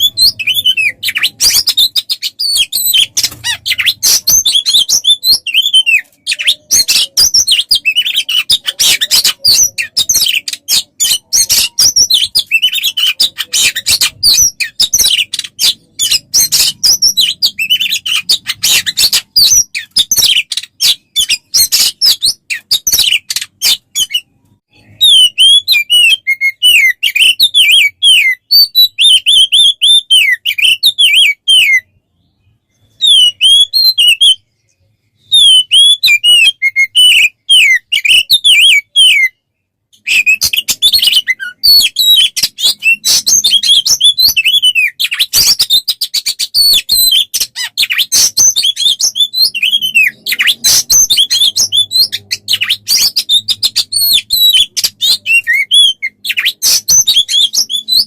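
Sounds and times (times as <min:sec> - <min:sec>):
songbird chirping and whistling: 0:00.0 - 0:58.0.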